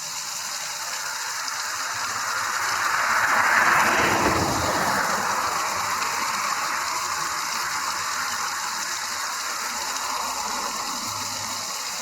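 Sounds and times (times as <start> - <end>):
waterfall rushing: 0.6 - 12.0.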